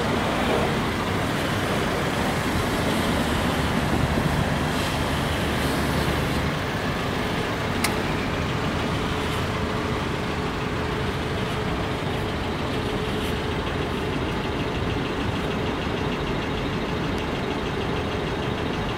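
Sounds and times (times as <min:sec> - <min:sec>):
road traffic rumble: 0:00.0 - 0:18.9.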